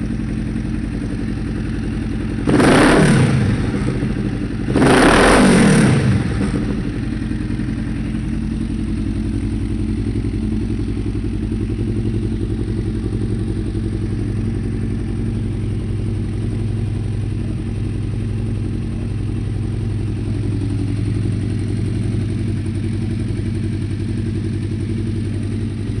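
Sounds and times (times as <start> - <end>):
motorcycle engine revving and idling: 0.0 - 26.0.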